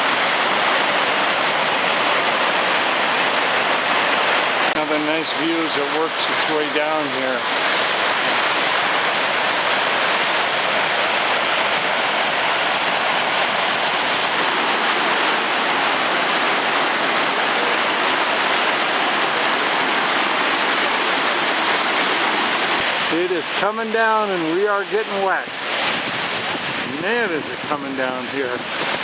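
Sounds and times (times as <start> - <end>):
waterfall rushing over rocks: 0.0 - 29.0.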